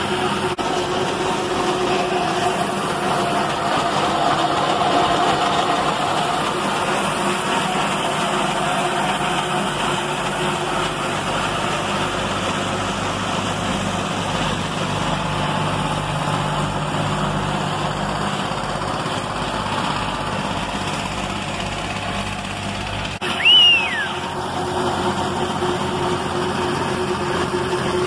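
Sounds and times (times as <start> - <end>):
forage bagger machinery din: 0.0 - 28.0
tractor engine running: 0.0 - 28.0.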